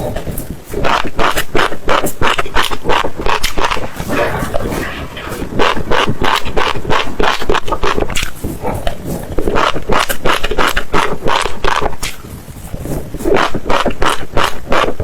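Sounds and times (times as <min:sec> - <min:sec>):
chewing crunchy seeds: 0:00.0 - 0:15.0.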